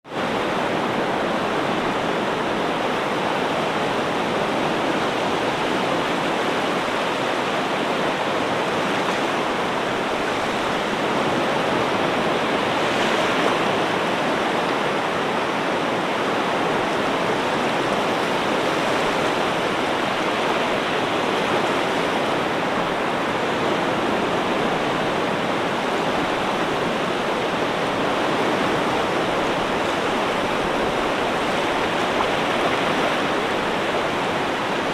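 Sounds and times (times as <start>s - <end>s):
ocean waves washing: 0.1s - 34.9s.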